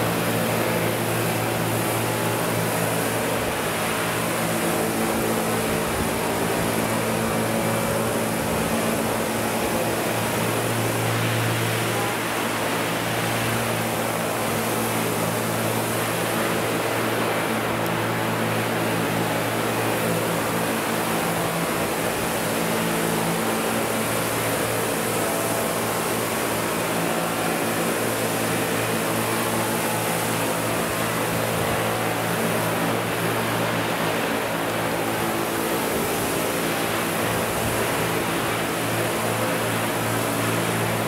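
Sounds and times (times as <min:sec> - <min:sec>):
model helicopter rotors droning: 0:00.0 - 0:41.0.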